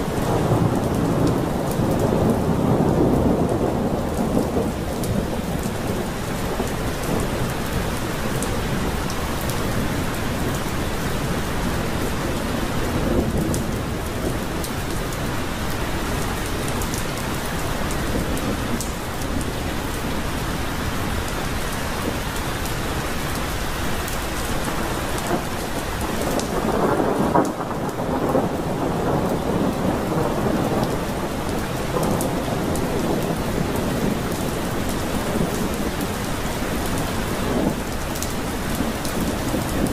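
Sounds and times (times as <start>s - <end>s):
thunder rumbling: 0.0s - 23.3s, 24.3s - 39.9s
heavy rain pouring: 0.0s - 39.9s.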